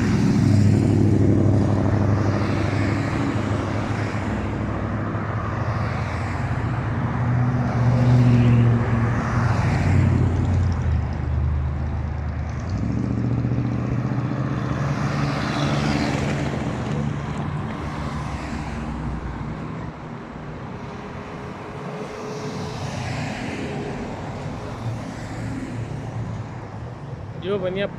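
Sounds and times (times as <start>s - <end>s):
trucks driving past: 0.0s - 27.9s.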